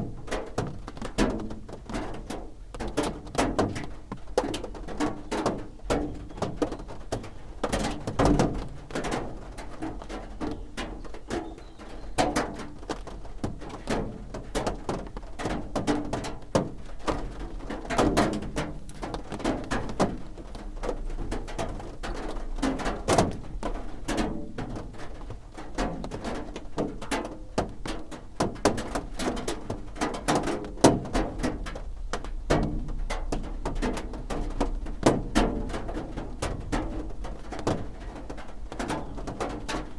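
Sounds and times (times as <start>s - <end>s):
rain drumming on a roof: 0.0s - 39.9s.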